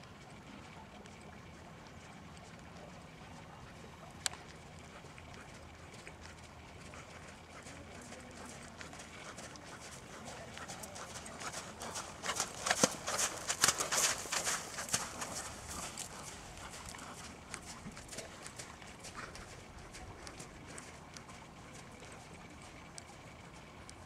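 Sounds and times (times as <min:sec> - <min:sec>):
horse hooves trotting: 0:00.5 - 0:24.0.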